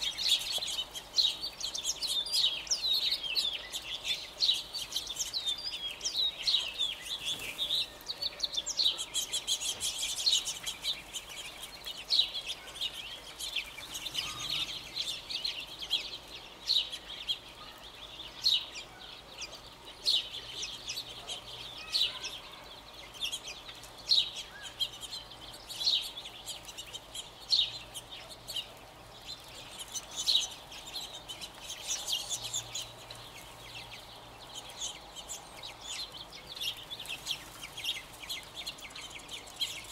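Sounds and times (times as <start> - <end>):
quail chirps and clucks: 0.0 - 39.9.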